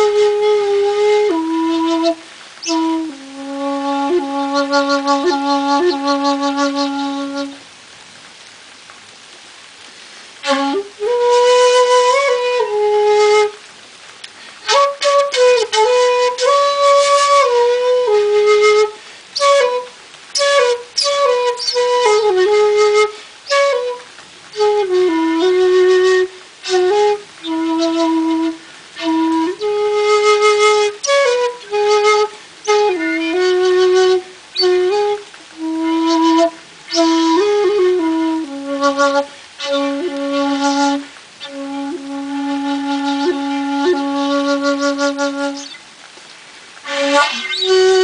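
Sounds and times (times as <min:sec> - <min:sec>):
bamboo flute playing held notes: 0:00.0 - 0:07.8, 0:10.4 - 0:48.0.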